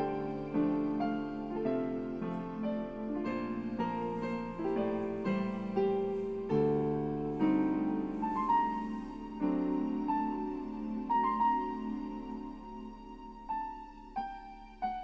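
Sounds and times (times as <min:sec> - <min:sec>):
digital piano playing slow chords: 0:00.0 - 0:15.0.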